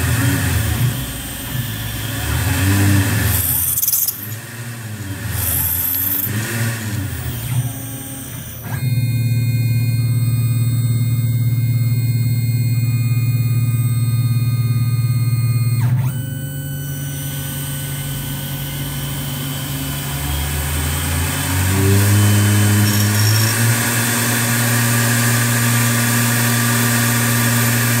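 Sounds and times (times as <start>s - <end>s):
milling machine motors whining: 0.0s - 28.0s.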